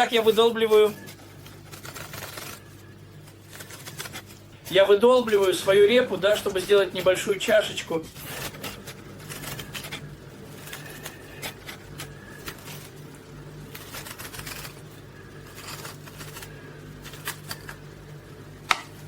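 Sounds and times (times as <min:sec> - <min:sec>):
hand tool scraping turnip: 0:00.0 - 0:02.7, 0:03.4 - 0:07.3, 0:07.9 - 0:13.0, 0:13.7 - 0:17.8
low steady hum: 0:00.0 - 0:19.0.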